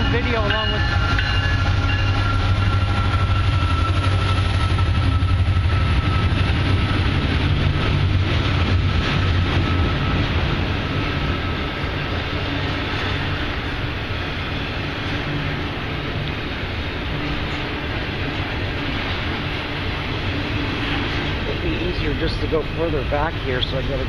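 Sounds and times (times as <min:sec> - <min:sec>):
train passing rumble: 0:00.0 - 0:24.0.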